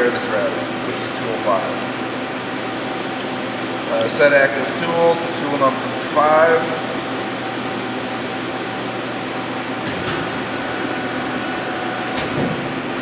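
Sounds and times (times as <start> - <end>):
lathe machine humming: 1.8 - 13.0.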